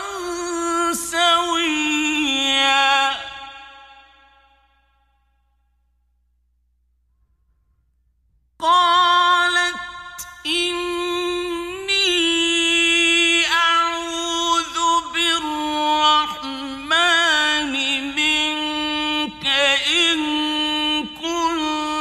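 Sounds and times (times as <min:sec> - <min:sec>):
man reciting in melodic chant: 0:00.0 - 0:04.4, 0:08.6 - 0:22.0.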